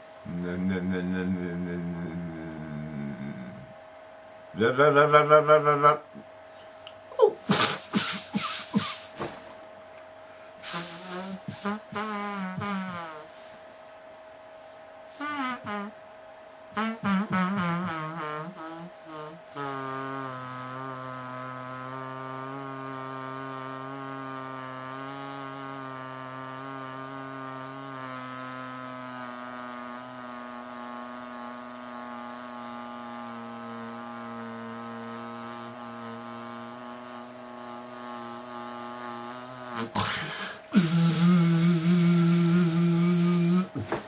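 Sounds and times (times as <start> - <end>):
electric vibrator buzzing: 0.0 - 44.0.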